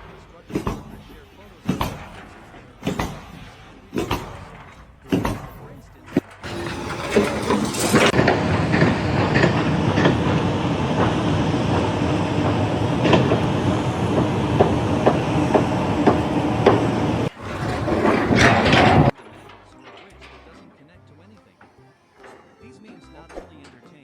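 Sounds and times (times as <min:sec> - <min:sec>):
mechanical rumble with hum: 0:00.0 - 0:20.9
irregular clanks and knocks: 0:00.0 - 0:24.0.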